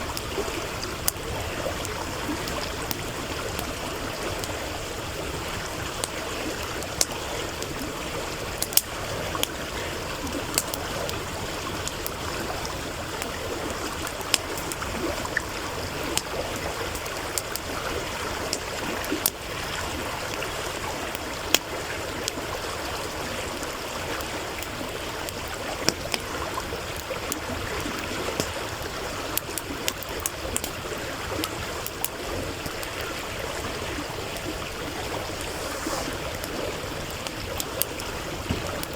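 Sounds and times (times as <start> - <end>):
campfire crackling: 0.0 - 38.9
stream rushing: 0.0 - 38.9.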